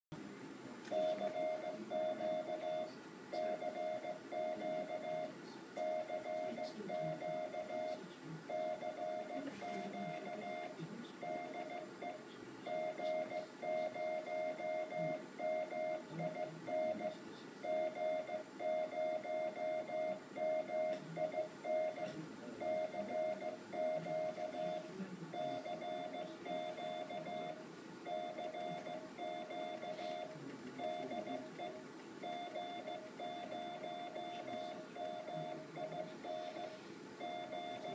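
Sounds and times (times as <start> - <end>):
low uneven background noise: 0.1 - 37.9
morse code tone: 0.9 - 37.9.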